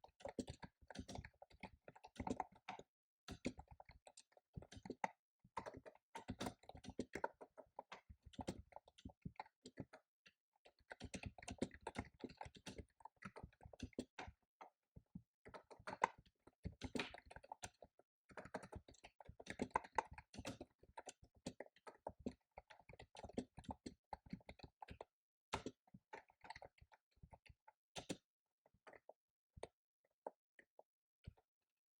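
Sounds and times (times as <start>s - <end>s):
typing on computer keyboard: 0.0s - 14.7s, 15.5s - 28.3s.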